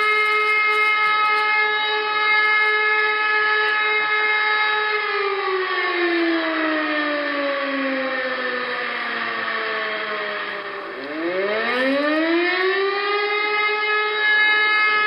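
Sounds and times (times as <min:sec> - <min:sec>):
fire siren wailing: 0:00.0 - 0:15.0.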